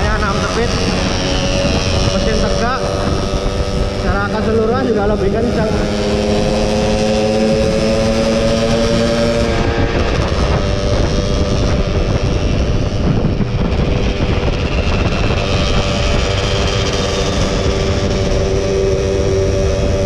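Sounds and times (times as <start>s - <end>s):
motorcycle engine running: 0.0s - 20.0s
wind on microphone: 0.0s - 20.0s.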